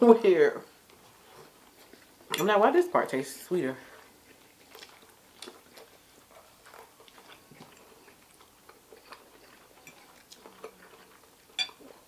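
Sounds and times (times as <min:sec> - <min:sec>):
soft chewing: 0:00.5 - 0:12.0.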